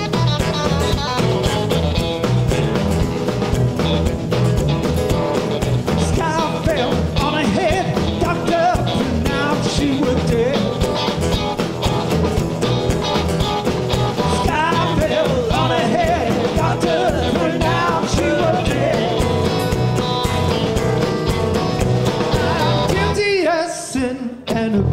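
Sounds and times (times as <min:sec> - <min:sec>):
live blues-rock band: 0:00.0 - 0:24.9.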